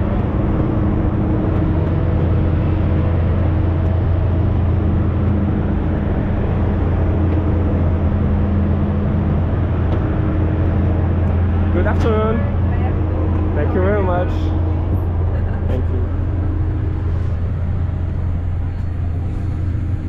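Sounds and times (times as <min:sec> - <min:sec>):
constant hum tones: 0:00.0 - 0:20.0
low machinery drone: 0:00.0 - 0:20.0.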